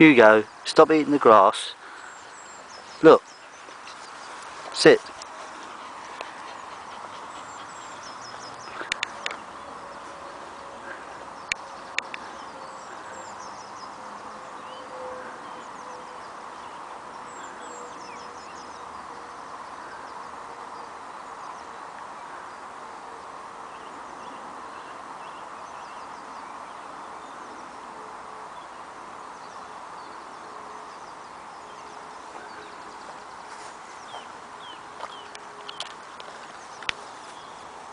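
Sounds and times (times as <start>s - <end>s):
birds chirping faintly: 0.0s - 37.9s.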